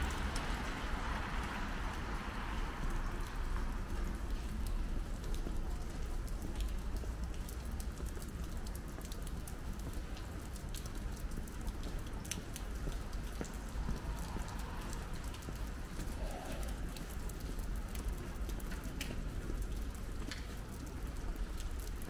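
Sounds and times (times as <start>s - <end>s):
light rain falling: 0.0s - 22.0s
raindrops ticking: 0.0s - 22.0s.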